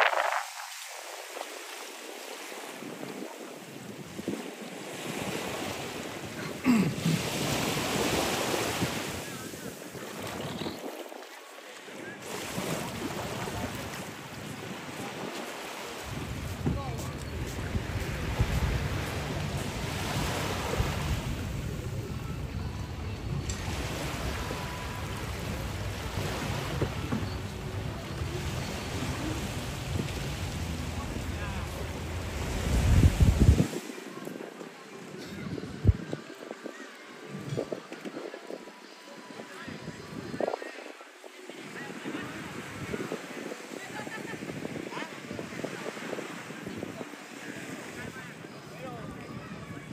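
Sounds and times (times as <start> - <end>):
wind on microphone: 0.0 - 1.8, 2.7 - 11.3, 12.1 - 49.9
surf washing onto beach: 0.0 - 49.9.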